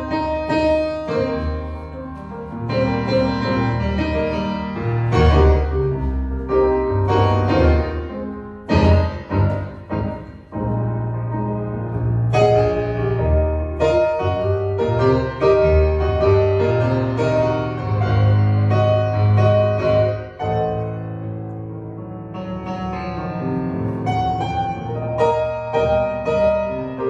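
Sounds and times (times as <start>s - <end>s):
solo piano playing slow chords: 0.0s - 27.0s.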